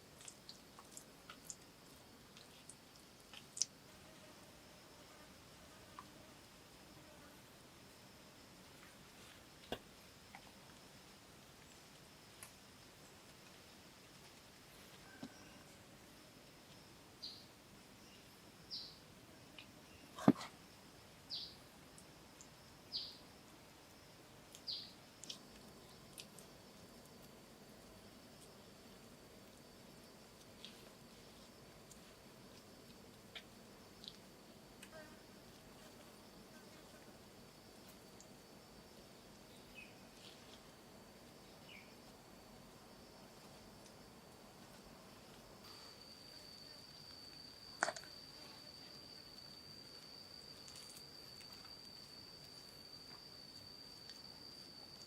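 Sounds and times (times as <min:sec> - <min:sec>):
faint steady high hiss: 0:00.0 - 0:55.0
insects droning: 0:00.0 - 0:55.0.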